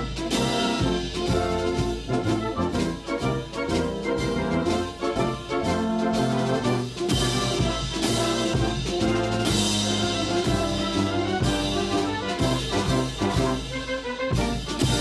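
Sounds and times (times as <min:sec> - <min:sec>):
brass band playing: 0:00.0 - 0:15.0
drums: 0:00.0 - 0:15.0.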